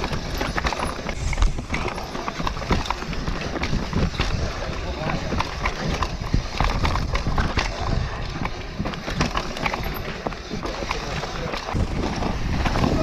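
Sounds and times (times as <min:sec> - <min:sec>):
bike knocking and rattling: 0:00.0 - 0:13.0
low rumble of tyres and air: 0:00.0 - 0:13.0.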